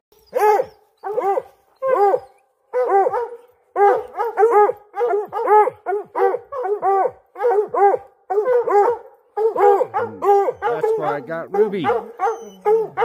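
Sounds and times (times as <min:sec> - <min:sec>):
hounds barking: 0:00.3 - 0:13.0.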